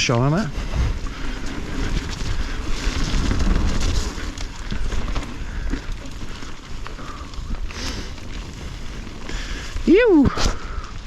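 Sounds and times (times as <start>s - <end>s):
mountain bike rattling: 0.0s - 11.0s
wind buffeting microphone: 0.0s - 11.0s
wheels knocking on bumps: 0.6s - 10.0s.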